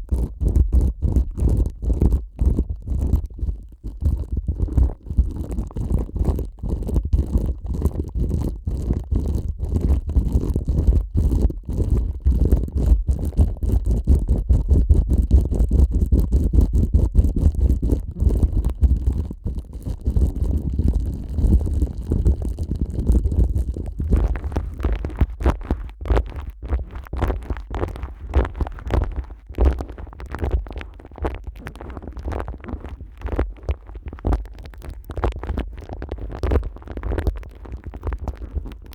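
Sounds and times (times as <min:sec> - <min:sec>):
muffled rumbles of film on mic: 0:00.0 - 0:38.9.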